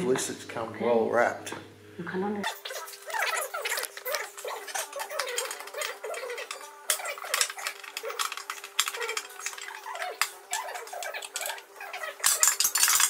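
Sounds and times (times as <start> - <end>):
small clinks and knocks: 2.5 - 13.0.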